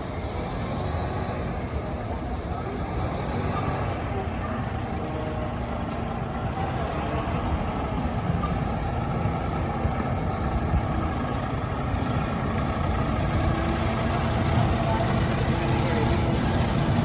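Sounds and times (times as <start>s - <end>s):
heavy vehicle engine rumbling: 0.0s - 17.0s
street traffic noise: 0.0s - 17.0s.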